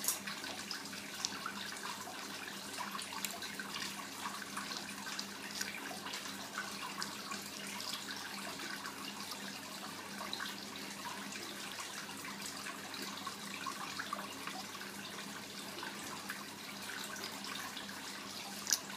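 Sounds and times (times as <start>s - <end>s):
water trickling: 0.0s - 18.9s.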